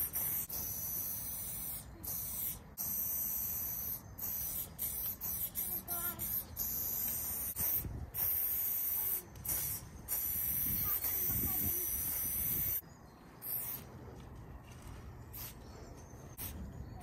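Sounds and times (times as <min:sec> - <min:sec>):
spray paint can hissing: 0:00.0 - 0:12.8, 0:13.4 - 0:13.8, 0:15.3 - 0:15.6, 0:16.4 - 0:16.6.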